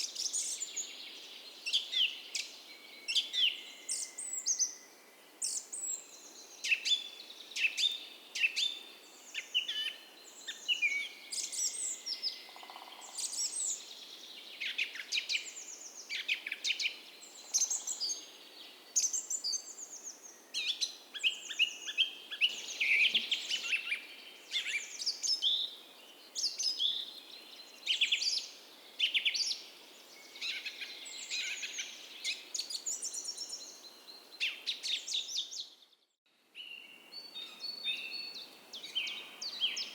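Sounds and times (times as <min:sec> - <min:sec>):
gentle creek hiss: 0:00.0 - 0:35.7, 0:36.4 - 0:39.9
songbirds chirping and whistling: 0:00.0 - 0:36.0, 0:36.6 - 0:39.9.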